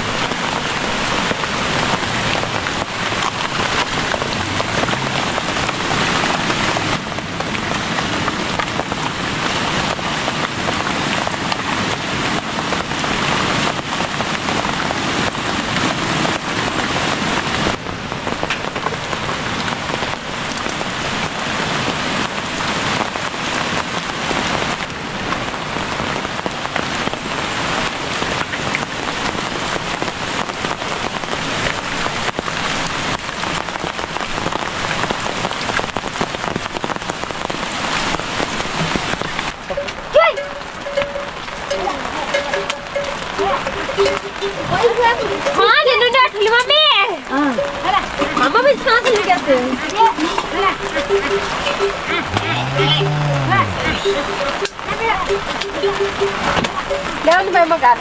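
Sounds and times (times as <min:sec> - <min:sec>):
rain on leaves and wet ground: 0:00.0 - 0:58.0.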